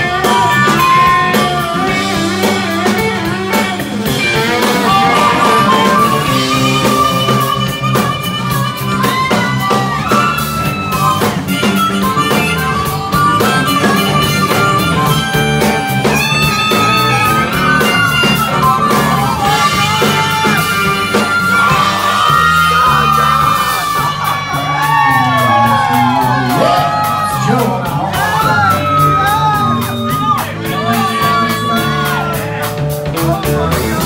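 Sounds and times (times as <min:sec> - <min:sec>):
harmonica with bending notes: 0:00.0 - 0:32.5
bass guitar: 0:00.0 - 0:34.0
drum kit: 0:00.0 - 0:34.0
electric guitar: 0:00.0 - 0:34.0.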